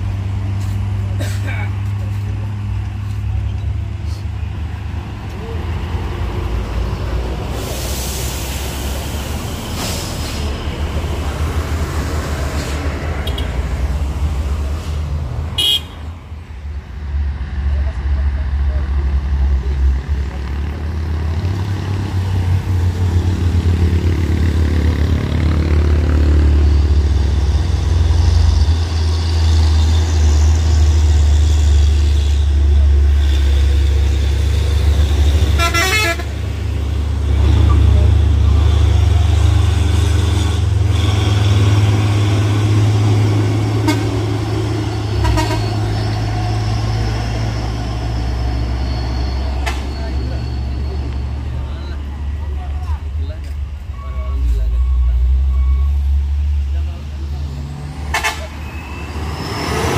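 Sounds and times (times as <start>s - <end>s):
heavy vehicle engine rumbling: 0.0s - 59.9s.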